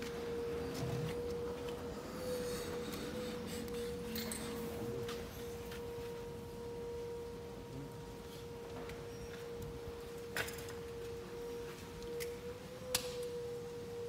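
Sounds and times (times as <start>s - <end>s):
steady pure whine: 0.0s - 14.0s.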